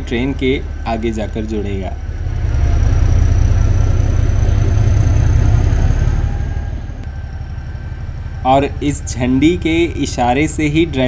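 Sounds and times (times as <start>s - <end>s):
diesel locomotive engine droning: 0.0s - 11.0s
faint high whine: 0.0s - 11.0s.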